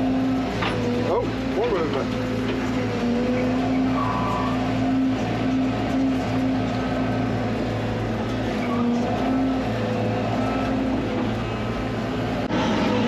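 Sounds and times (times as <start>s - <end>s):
excavator diesel engine under load: 0.0s - 13.0s.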